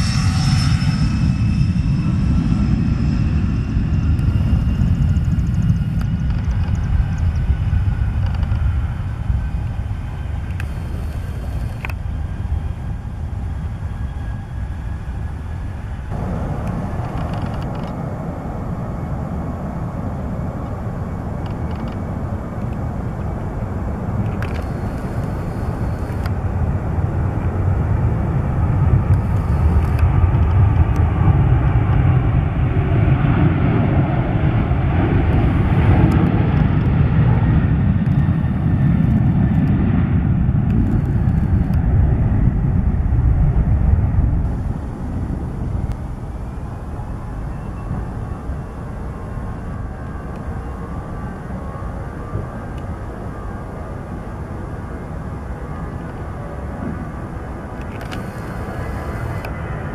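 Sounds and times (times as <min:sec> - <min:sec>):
airliner engine rumble: 0:00.0 - 0:59.9.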